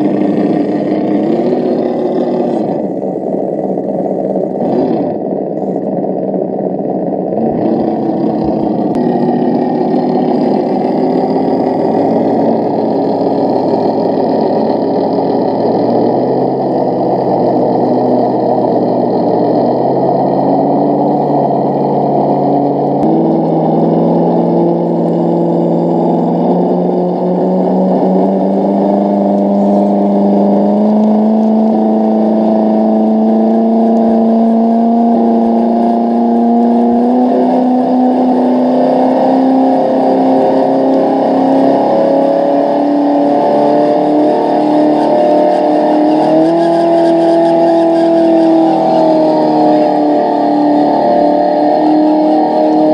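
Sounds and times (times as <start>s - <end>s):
simulated truck engine: 0.0s - 52.9s.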